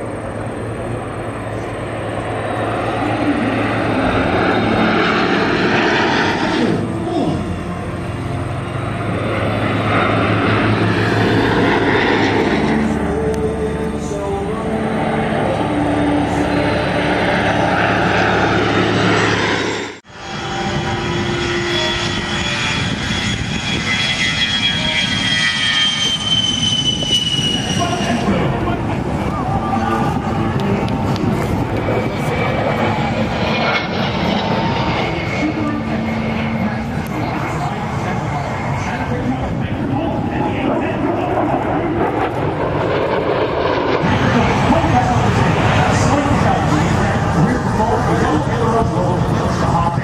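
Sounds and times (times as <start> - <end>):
jet and propeller aircraft flying past: 0.0 - 50.0
low rumble: 0.0 - 50.0.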